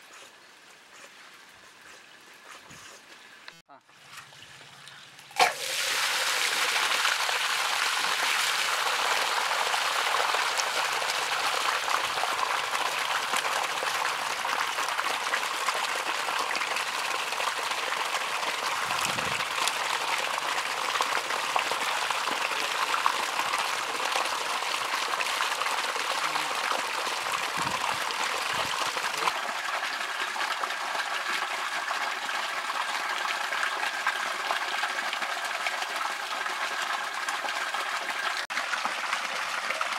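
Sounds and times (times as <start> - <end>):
water rushing along a channel: 5.3 - 39.9.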